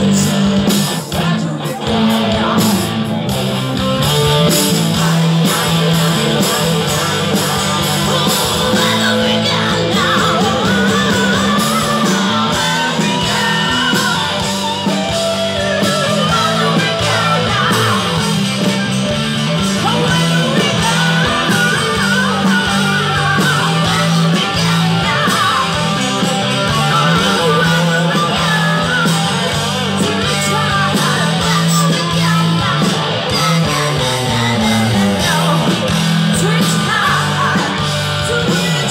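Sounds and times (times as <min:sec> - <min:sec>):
rock band playing: 0:00.0 - 0:38.9
woman singing: 0:04.2 - 0:38.9.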